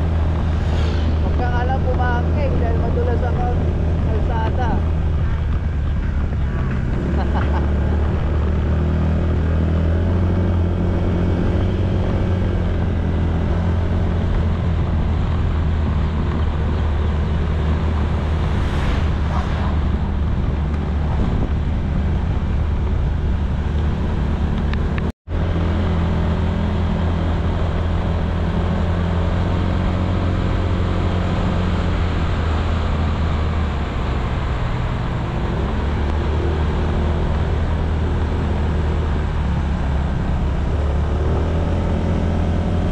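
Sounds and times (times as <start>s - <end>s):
wind noise: 0.0s - 42.9s.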